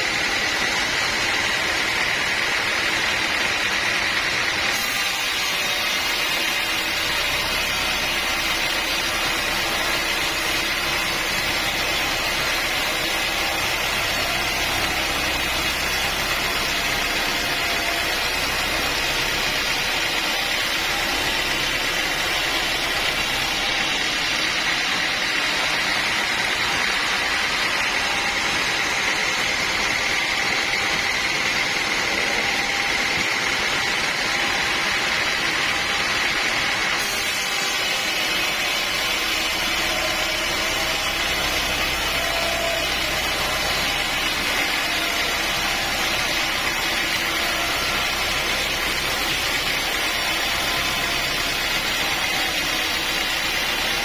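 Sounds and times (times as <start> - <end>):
sawmill machinery whining: 0.0 - 54.0.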